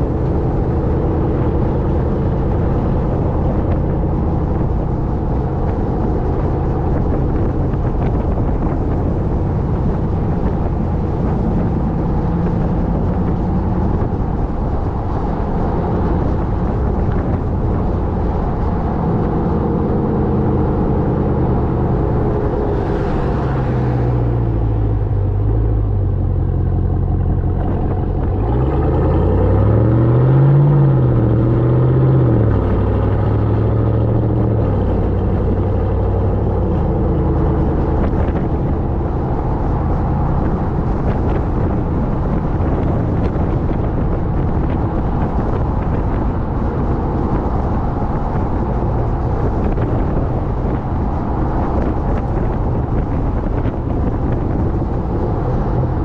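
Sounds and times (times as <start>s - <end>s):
pickup engine droning: 0.0s - 56.0s
road and wind noise: 0.0s - 56.0s.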